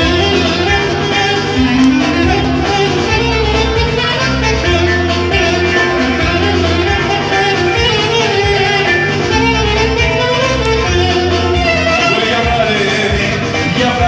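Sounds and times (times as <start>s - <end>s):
clarinet melody: 0.0s - 14.0s
keyboard bass notes: 0.0s - 14.0s.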